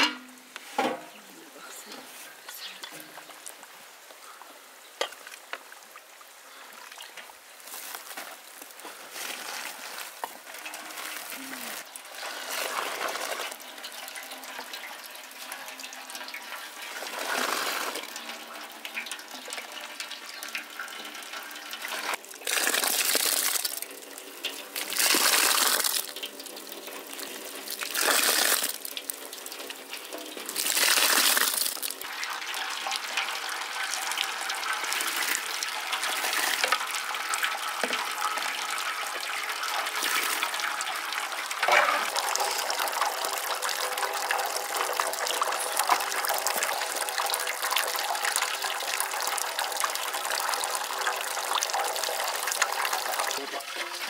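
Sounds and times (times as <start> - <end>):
juice streaming and dripping into basin: 0.1 - 54.0
mash pouring with splashes: 6.8 - 54.0.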